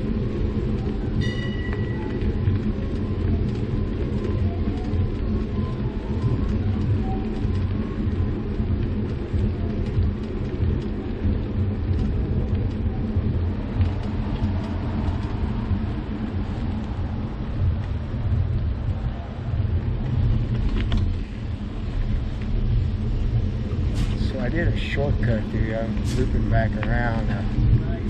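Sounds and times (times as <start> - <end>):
bicycle road rumble: 0.0 - 28.0
wind buffeting microphone: 0.0 - 28.0.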